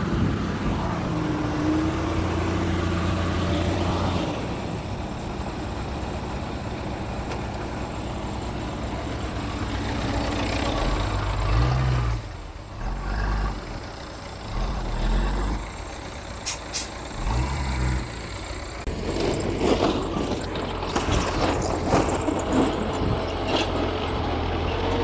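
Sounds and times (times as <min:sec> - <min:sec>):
bulldozer diesel engine working: 0:00.0 - 0:25.0.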